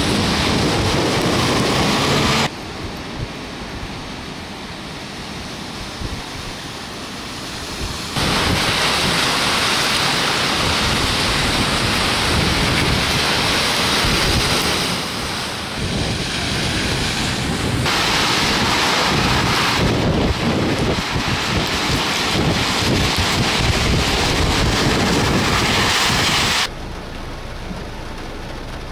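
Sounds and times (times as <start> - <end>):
wind buffeting microphone: 0.0 - 4.1, 7.5 - 26.7
heavy rain: 0.0 - 28.9
water noise: 0.0 - 28.9.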